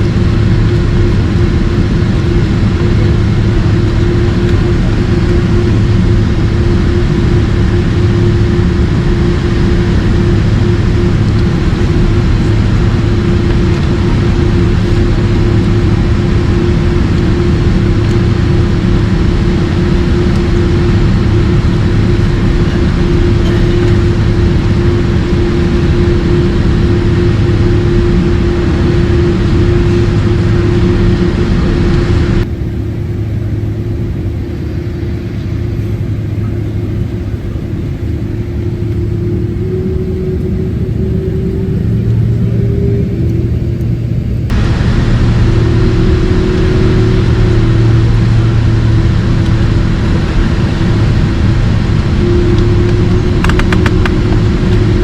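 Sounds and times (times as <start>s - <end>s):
jet airliner engine roar: 0.0s - 55.0s.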